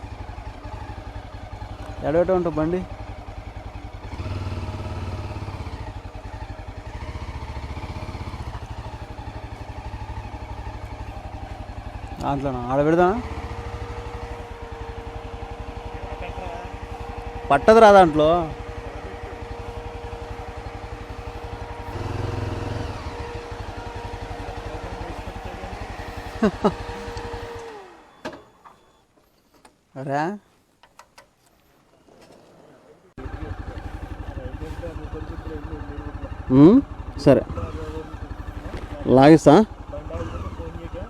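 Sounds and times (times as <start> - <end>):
motorcycle engine idling: 0.0 - 29.6, 33.1 - 41.0.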